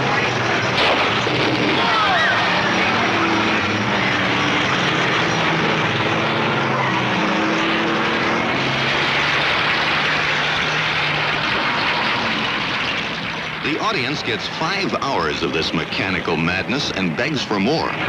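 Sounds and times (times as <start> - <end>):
race car engines roaring: 0.0 - 18.0.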